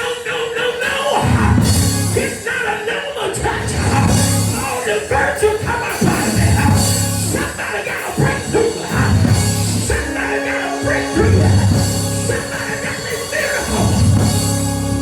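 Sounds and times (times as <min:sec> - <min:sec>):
church band playing rock music: 0:00.0 - 0:15.0.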